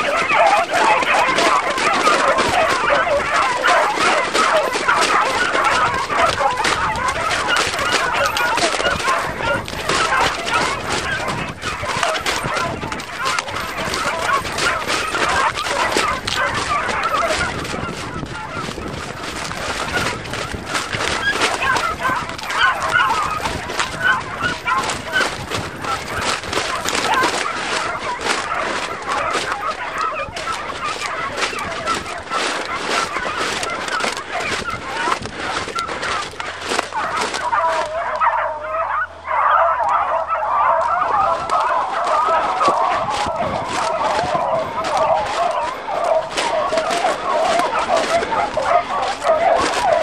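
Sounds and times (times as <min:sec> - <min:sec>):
hounds baying and yelping: 0:00.0 - 0:50.0
rustling: 0:00.0 - 0:50.0.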